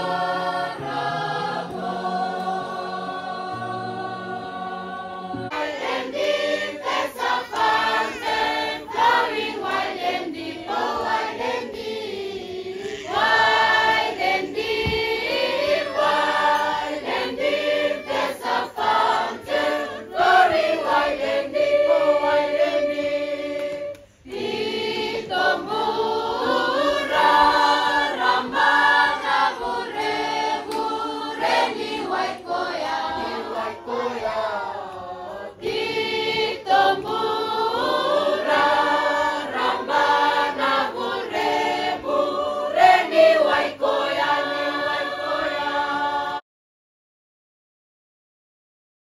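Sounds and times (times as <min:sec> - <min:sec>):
choir singing: 0:00.0 - 0:46.4.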